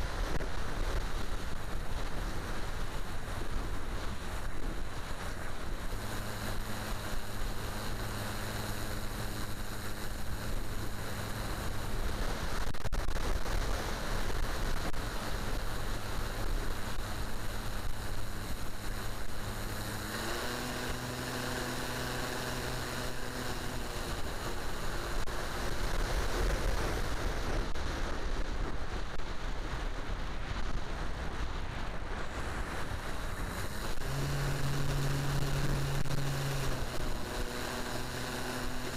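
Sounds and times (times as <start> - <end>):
wind noise on microphone: 0.0 - 38.9
model plane electric motor hum: 0.2 - 28.4, 32.3 - 38.9.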